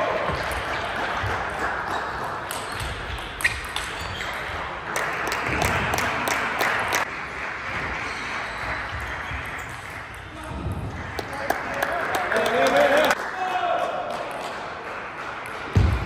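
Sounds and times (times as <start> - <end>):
noise from the hall: 0.0 - 16.0.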